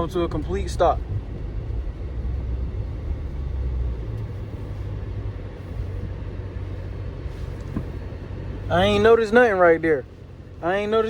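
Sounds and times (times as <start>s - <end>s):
car engine and road drone: 0.0s - 11.0s.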